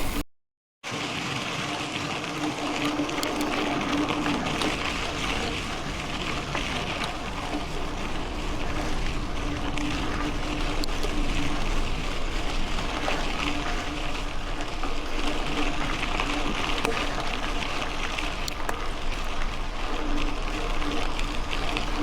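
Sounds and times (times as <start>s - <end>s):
bike tyres rolling on dirt: 0.8s - 22.0s.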